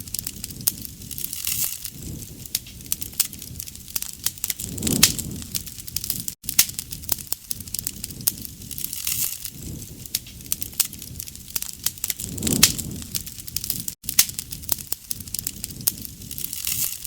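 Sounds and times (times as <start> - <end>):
low rush of flame: 0.0 - 17.0
wood crackling and popping: 0.0 - 17.0.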